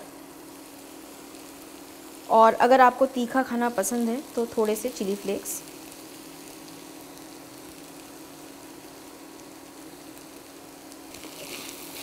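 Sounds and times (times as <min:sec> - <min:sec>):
vegetables sizzling in a skillet: 0:00.0 - 0:12.0.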